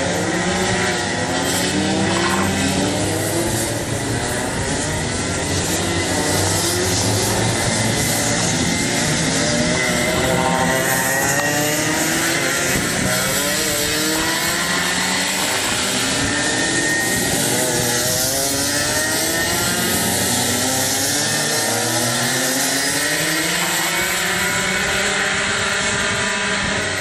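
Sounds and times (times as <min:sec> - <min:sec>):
racing kart engines revving: 0:00.0 - 0:27.0.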